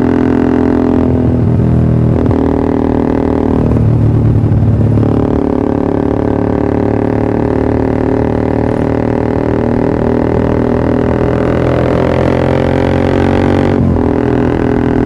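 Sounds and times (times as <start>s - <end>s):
motorcycle engine droning: 0.0s - 15.0s.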